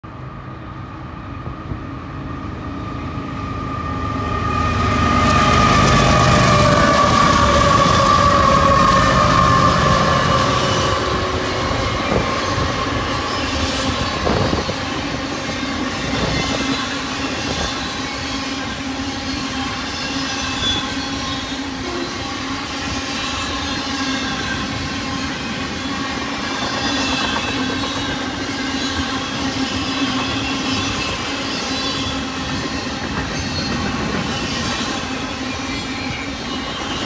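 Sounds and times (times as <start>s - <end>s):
diesel locomotive tones: 0.0s - 37.0s
steel wheels rumbling on rail: 0.1s - 37.0s.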